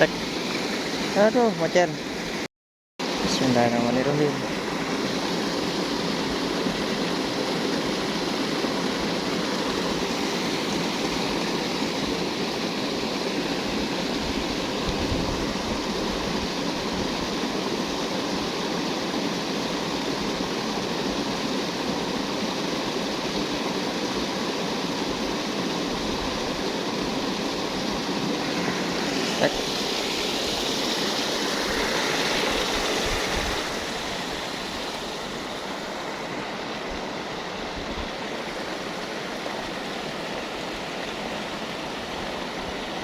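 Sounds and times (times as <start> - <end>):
flowing water rushing: 0.0 - 43.0.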